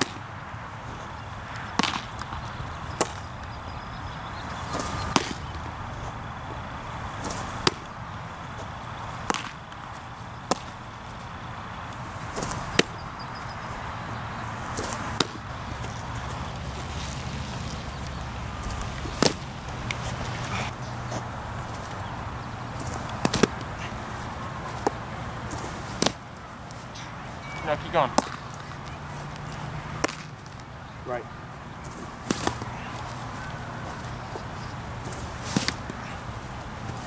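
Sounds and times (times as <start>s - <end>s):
baseballs smacking into leather mitt: 0.0s - 0.3s, 1.1s - 16.9s, 17.5s - 27.1s, 27.8s - 30.7s, 31.8s - 37.0s
steady outdoor hiss: 0.0s - 37.0s.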